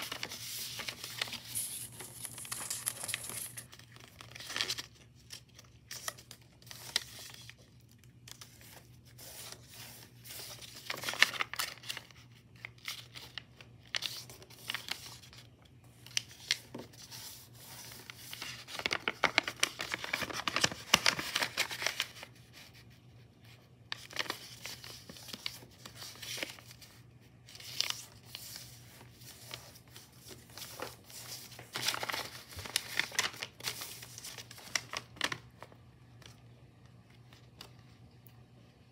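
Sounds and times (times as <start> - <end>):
paper rustling and crinkling: 0.0 - 37.9.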